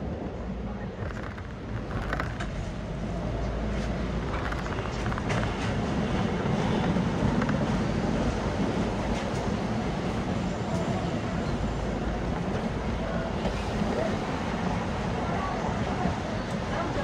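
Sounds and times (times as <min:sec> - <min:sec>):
tram rumbling: 0:00.0 - 0:17.0
creaks and clicks from tram: 0:00.1 - 0:17.0.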